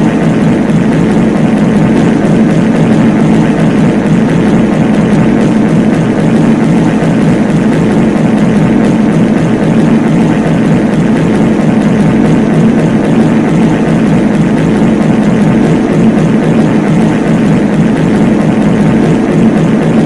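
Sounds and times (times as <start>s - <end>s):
layered reverb fart sounds: 0.0s - 20.0s.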